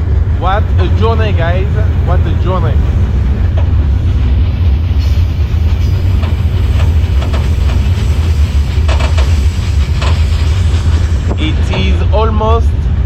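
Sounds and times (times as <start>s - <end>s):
train heavy rumble: 0.0s - 13.0s.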